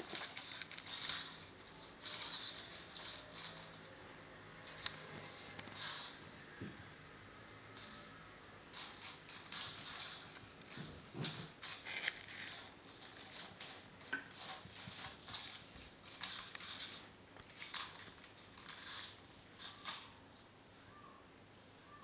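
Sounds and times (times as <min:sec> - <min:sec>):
plastic skittering on floor: 0:00.0 - 0:06.4, 0:08.7 - 0:20.2.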